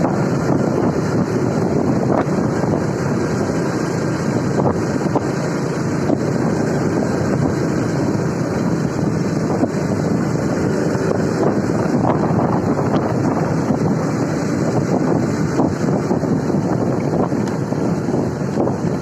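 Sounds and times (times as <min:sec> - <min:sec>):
road and engine rumble: 0:00.0 - 0:19.0
wind rushing over microphone: 0:00.0 - 0:19.0.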